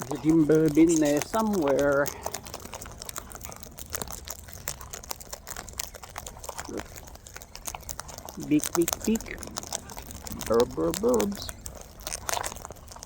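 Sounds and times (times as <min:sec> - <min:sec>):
parrots cracking seeds: 0:00.0 - 0:13.0.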